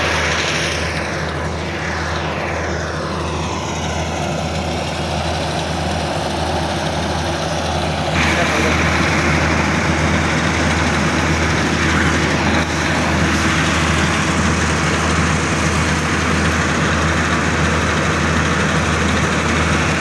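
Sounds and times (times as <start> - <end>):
harvester engine running: 0.0 - 20.0.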